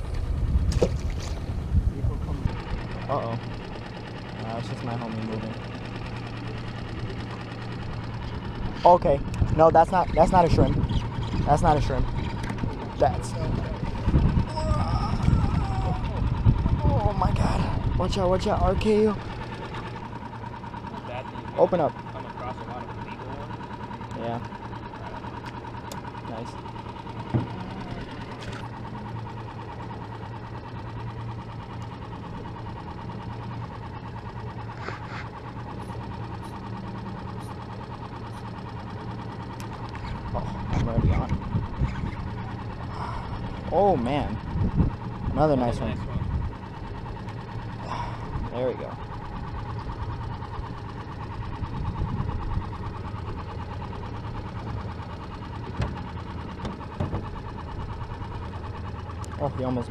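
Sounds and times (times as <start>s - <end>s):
small motor humming: 0.0s - 59.9s.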